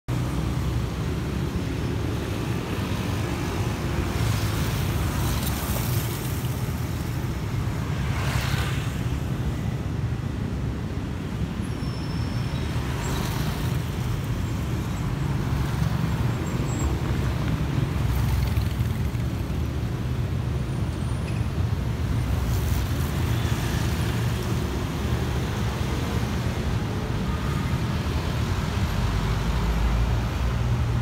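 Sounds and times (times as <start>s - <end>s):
motorcycles and cars passing: 0.1s - 31.0s.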